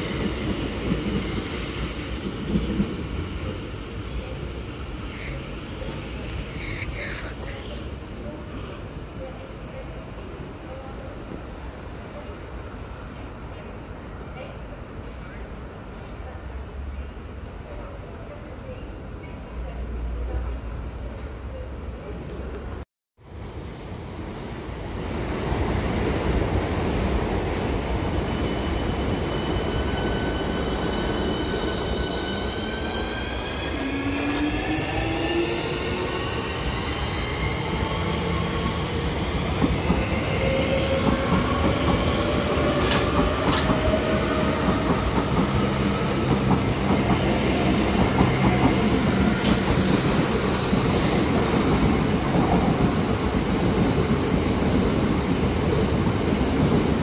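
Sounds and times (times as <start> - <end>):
train wheel and rail noise: 0.0 - 57.0.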